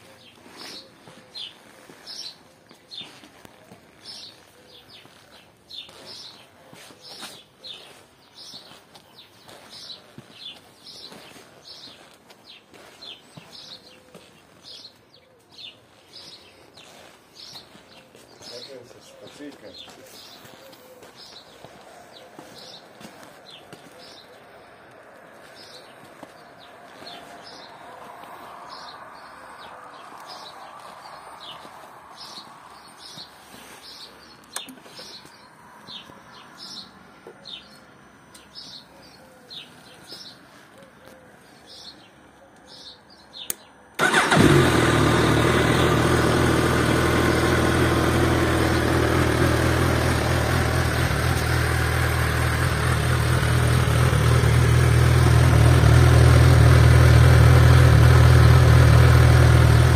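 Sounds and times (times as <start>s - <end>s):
small birds chirping: 0.0s - 58.4s.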